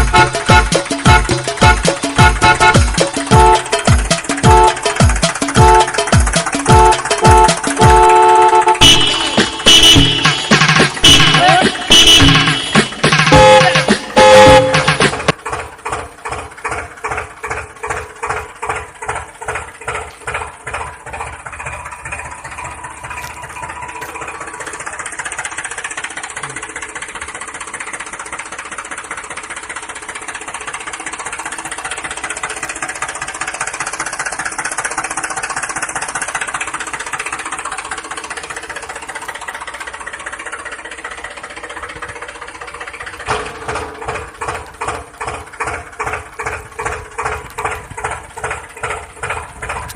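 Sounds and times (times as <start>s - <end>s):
toy vehicle engine chugging: 0.0s - 49.9s.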